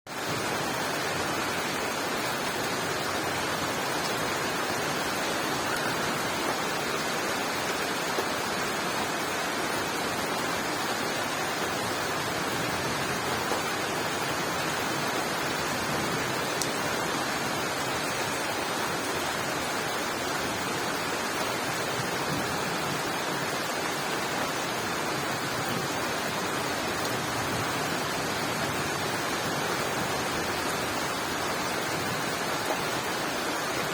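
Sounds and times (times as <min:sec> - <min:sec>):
rain falling on leaves: 0:00.1 - 0:33.9.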